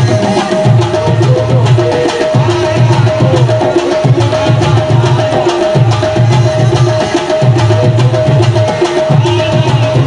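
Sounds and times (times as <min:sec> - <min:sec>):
hand-drum rhythm: 0:00.0 - 0:10.0
harmonium melody: 0:00.0 - 0:10.0.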